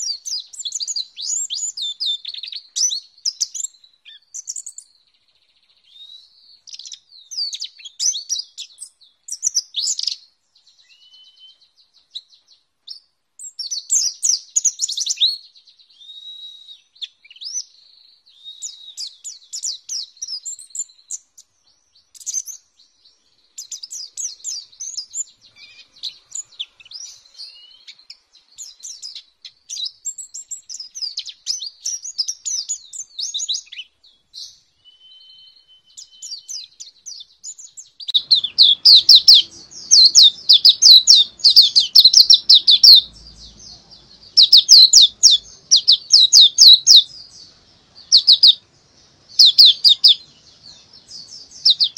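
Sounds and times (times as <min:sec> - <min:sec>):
bird twittering chirps and trills: 0:00.0 - 0:51.9.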